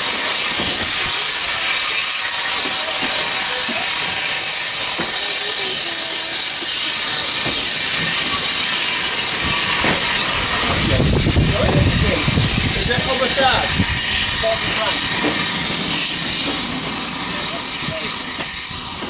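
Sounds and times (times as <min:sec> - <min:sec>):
steam locomotive hissing steam: 0:00.0 - 0:19.0.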